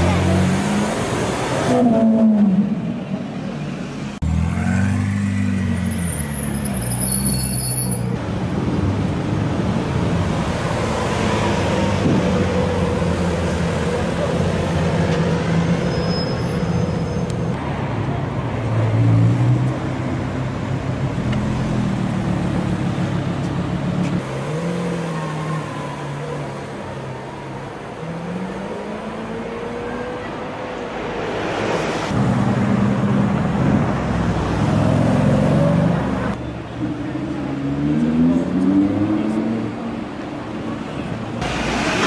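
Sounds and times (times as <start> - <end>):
car engines revving: 0.0 - 16.0, 16.7 - 42.0
traffic noise: 0.0 - 42.0.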